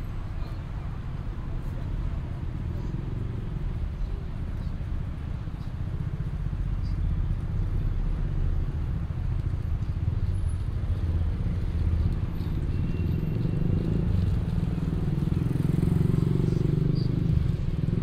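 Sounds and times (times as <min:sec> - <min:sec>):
low rumble of motor traffic: 0:00.0 - 0:18.0.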